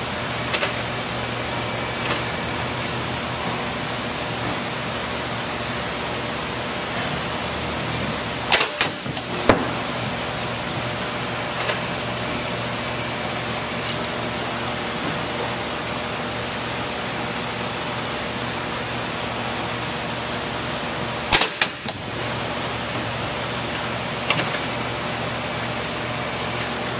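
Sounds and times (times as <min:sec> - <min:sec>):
steady background hum: 0:00.0 - 0:26.9.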